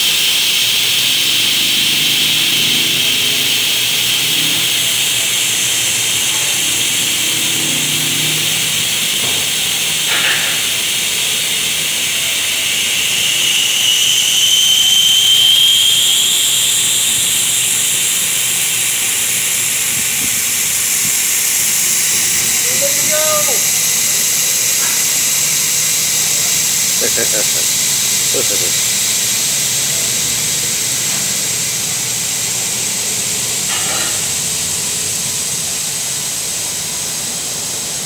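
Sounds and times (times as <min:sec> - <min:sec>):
air hissing out of tire: 0:00.0 - 0:35.0.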